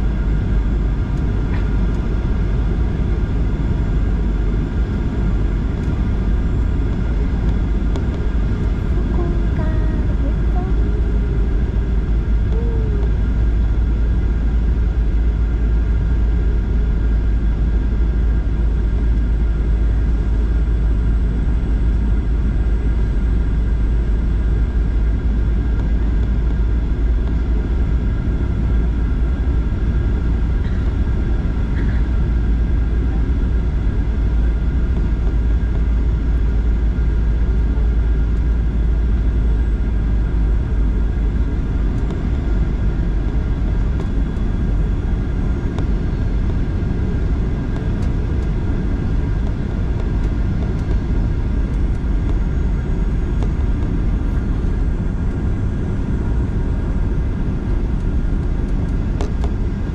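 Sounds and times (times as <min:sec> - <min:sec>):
airliner engines rumbling: 0:00.0 - 0:59.9
high steady whine: 0:00.0 - 0:59.9.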